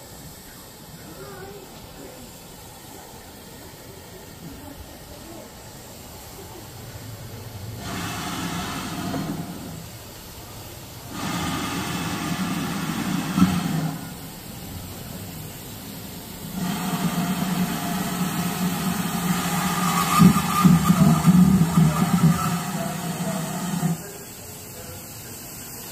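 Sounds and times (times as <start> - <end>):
steam locomotive rumble with hiss: 0.0 - 25.9.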